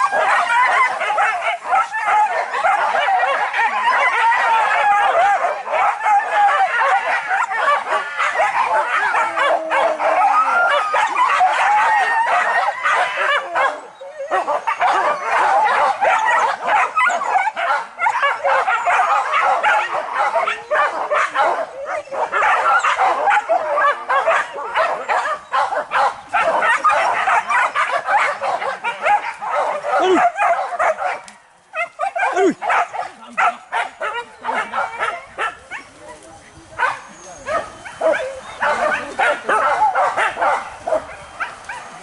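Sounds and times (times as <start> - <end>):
dogs barking and yelping: 0.0 - 42.0.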